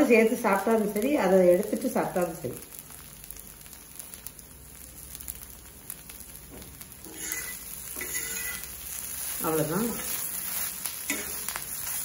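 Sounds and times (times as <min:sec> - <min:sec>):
oil sizzling and crackling in pan: 0:00.0 - 0:12.0.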